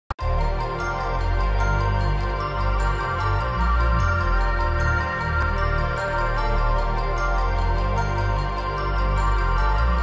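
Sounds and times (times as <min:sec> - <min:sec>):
deep bass: 0:00.2 - 0:10.0.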